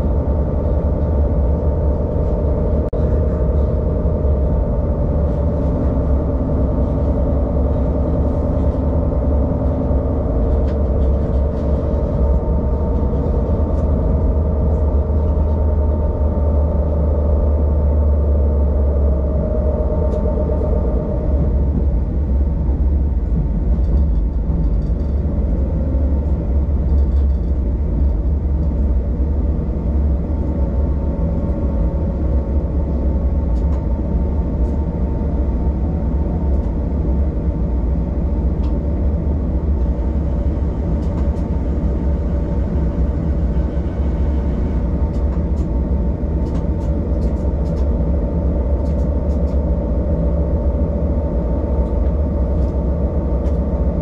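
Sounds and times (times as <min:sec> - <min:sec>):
railcar engine and wheels rumbling: 0:00.0 - 0:54.0.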